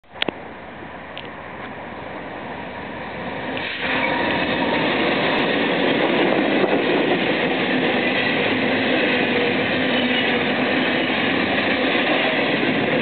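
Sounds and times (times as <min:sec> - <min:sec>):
freight train rumbling past: 0:00.4 - 0:13.0.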